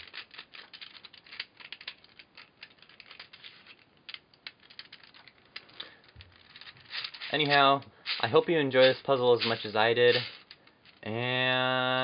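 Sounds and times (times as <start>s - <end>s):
plastic puzzle clicking: 0.0s - 11.1s.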